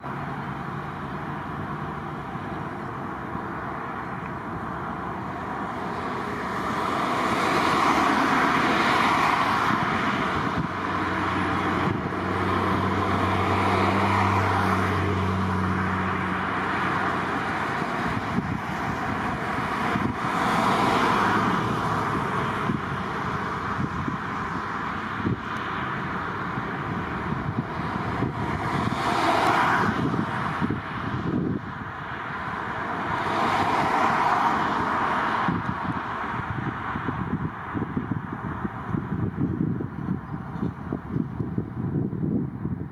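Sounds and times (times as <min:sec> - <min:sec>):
low engine hum: 0:00.0 - 0:42.9
vehicles rushing past: 0:00.0 - 0:42.9.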